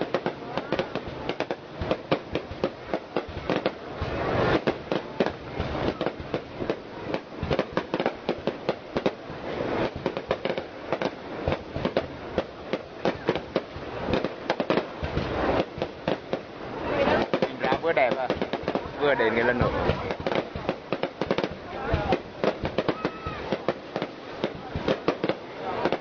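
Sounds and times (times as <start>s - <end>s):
firework bangs: 0.0s - 26.0s
firework crackle: 0.0s - 26.0s.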